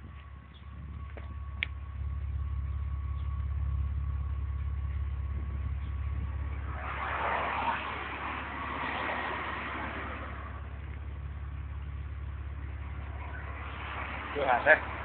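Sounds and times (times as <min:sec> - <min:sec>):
car exhaust idling rumble: 0:00.0 - 0:15.0.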